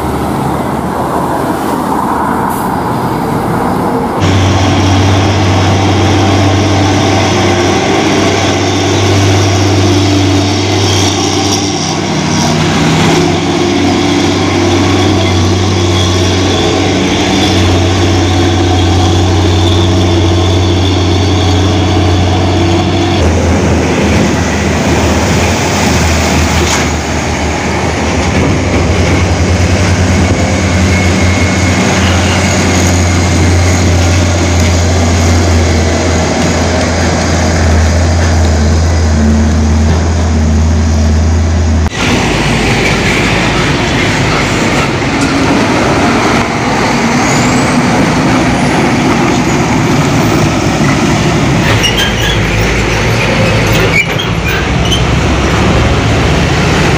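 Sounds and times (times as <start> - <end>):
diesel truck engines droning: 0.0 - 56.9.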